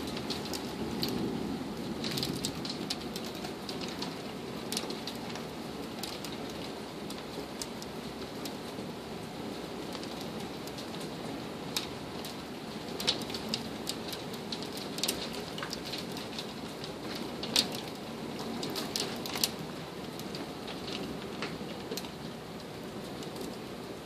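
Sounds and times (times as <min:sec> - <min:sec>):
hail and rain on a wooden deck: 0:00.0 - 0:24.0
hailstones ticking on window glass: 0:00.0 - 0:24.0.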